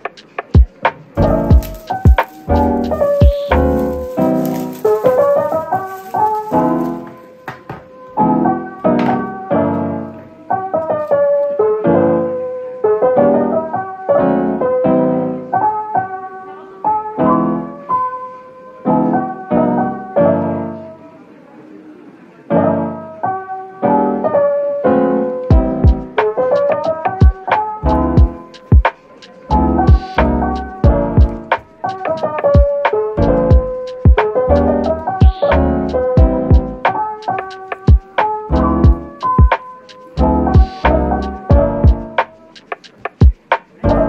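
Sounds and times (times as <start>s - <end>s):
gentle piano tune: 0.0s - 44.0s.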